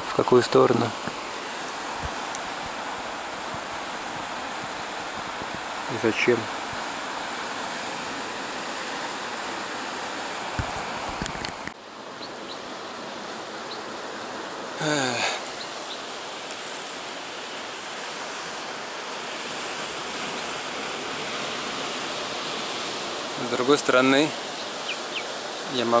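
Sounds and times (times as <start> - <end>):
ocean surf on rocky shore: 0.0 - 26.0
wind: 0.0 - 26.0.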